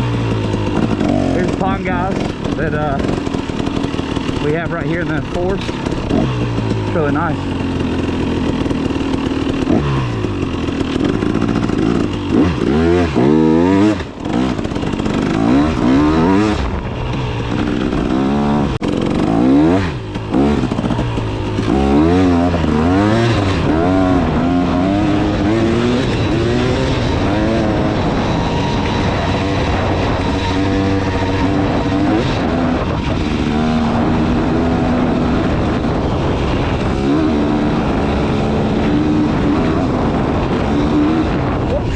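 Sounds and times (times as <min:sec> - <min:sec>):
two-stroke dirt bike engine: 0:00.0 - 0:41.9.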